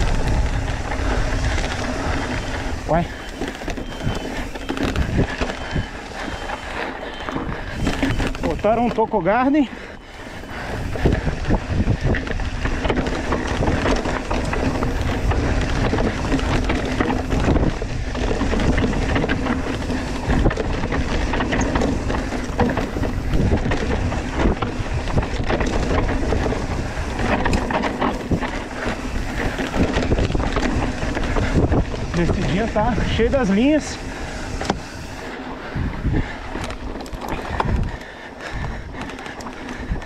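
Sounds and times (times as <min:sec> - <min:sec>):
bike tyres rattling on rocks: 0:00.0 - 0:40.0
wind noise on microphone: 0:00.0 - 0:40.0.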